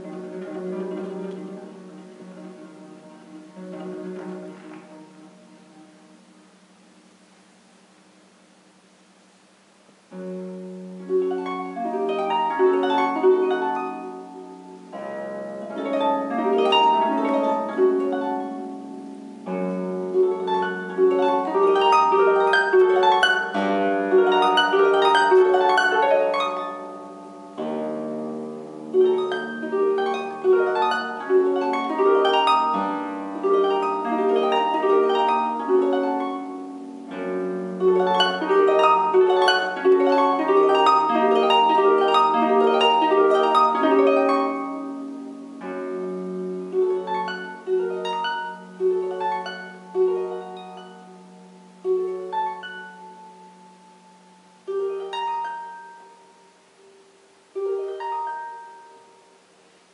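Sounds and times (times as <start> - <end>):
harp playing: 0.0 - 6.4, 10.1 - 59.6.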